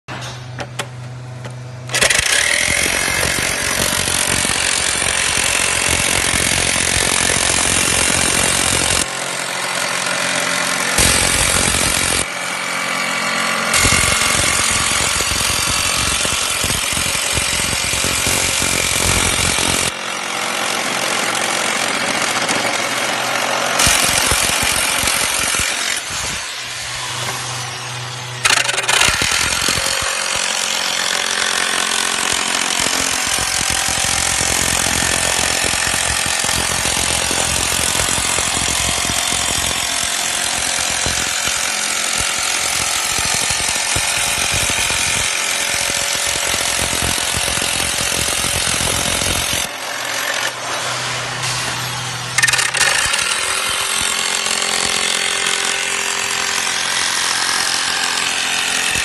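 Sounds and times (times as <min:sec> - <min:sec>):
jigsaw sawing sheet: 0:01.9 - 0:59.0.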